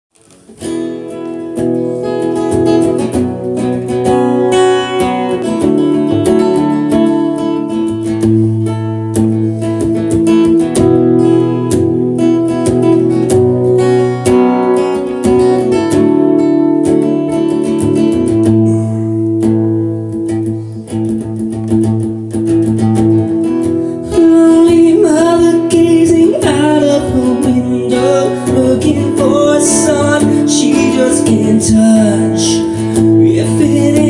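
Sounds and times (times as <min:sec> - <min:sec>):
acoustic guitar strummed chords: 0:00.1 - 0:34.0.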